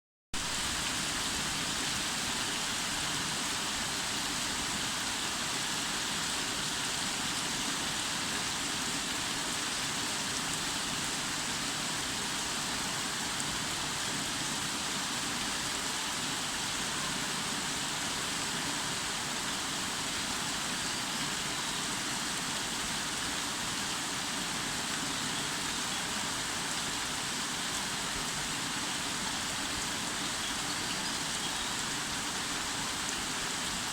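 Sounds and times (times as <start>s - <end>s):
steady rain hiss: 0.4s - 33.9s.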